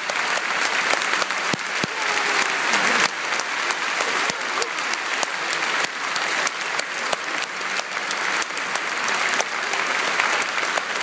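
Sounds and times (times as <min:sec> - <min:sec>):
audience applauding: 0:00.0 - 0:11.0
sharp individual claps: 0:00.0 - 0:11.0.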